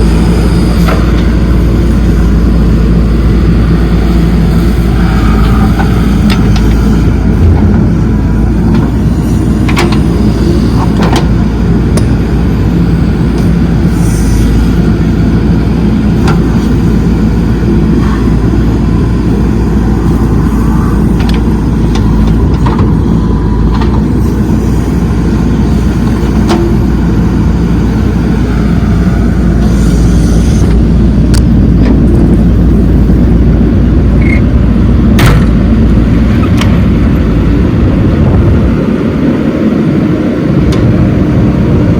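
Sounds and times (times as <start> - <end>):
heavy diesel machinery rumbling: 0.0 - 41.9.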